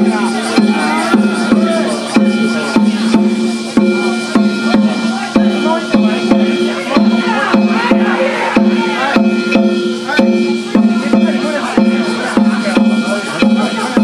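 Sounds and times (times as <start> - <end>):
drum beating: 0.0 - 14.0
ringing metal gongs: 0.0 - 14.0
voices shouting: 0.0 - 14.0.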